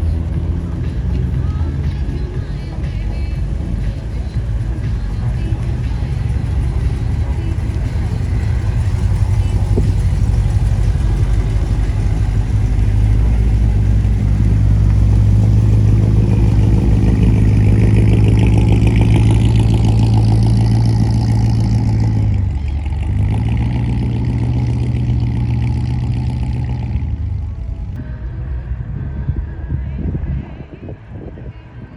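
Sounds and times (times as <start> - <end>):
car engine running loudly: 0.0 - 31.9.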